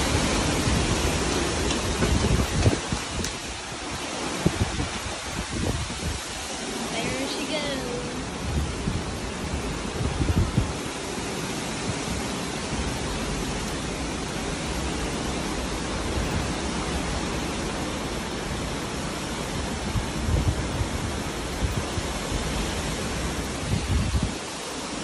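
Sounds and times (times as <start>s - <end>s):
heavy rain pouring: 0.0s - 25.0s
wind blowing: 0.0s - 25.0s
wind buffeting microphone: 0.0s - 25.0s.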